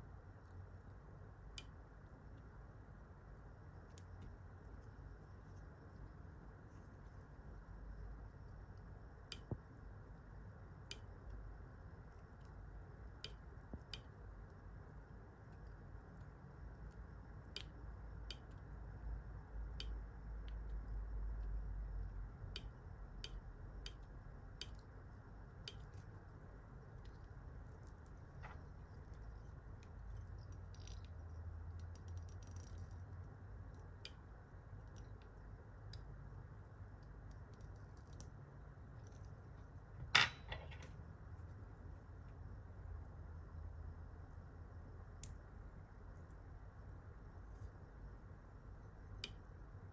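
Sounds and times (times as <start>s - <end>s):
low room hum: 0.0s - 49.9s.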